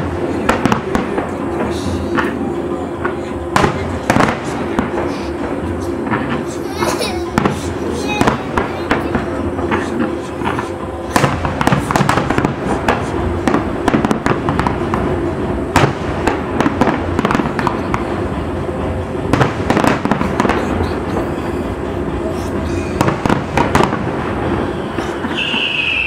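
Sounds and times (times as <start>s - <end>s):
loud firework bangs: 0.0s - 2.4s, 3.0s - 26.0s
fireworks bursting and crackling: 0.0s - 26.0s.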